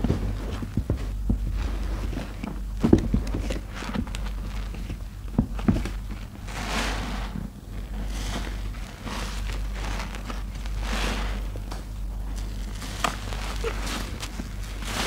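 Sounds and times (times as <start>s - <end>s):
steady low hum: 0.0s - 15.0s
wet sponge squishing: 0.0s - 15.0s.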